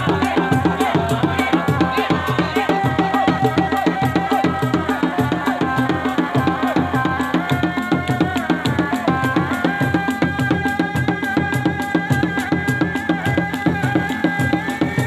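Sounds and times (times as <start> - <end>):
hand drums in fast rhythm: 0.0 - 15.0.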